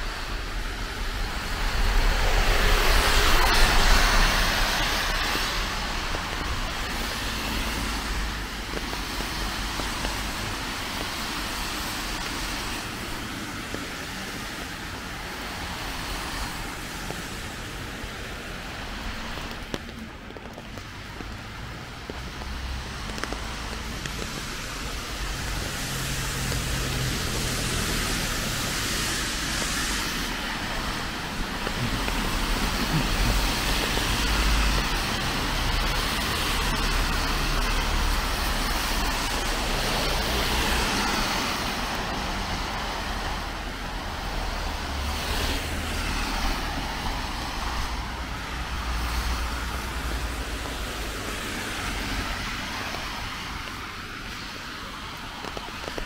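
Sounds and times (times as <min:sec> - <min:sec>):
car engines rumbling: 0:00.0 - 0:56.0
tyres hissing on wet road: 0:00.0 - 0:56.0.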